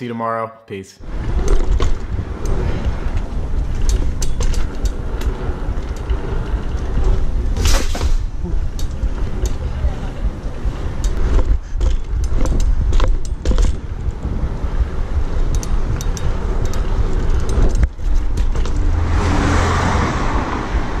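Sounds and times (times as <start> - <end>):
bike chain clicking and rattling: 1.0 - 21.0
tyres rolling on pavement: 1.0 - 21.0
wind rumble: 1.0 - 21.0.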